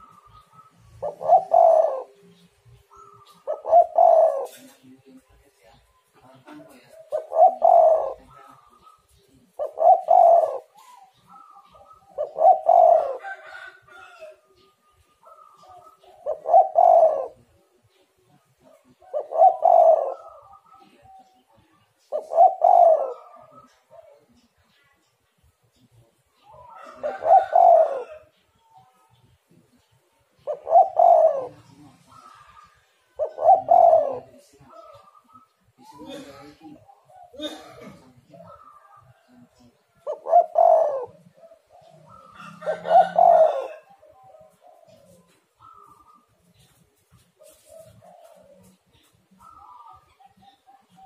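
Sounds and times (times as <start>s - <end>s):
dove cooing: 0.0s - 51.0s.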